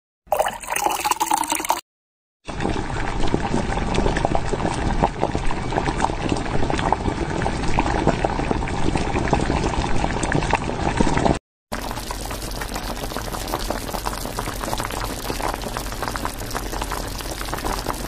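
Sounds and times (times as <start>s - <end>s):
food crackling and bubbling in pan: 2.4s - 18.0s.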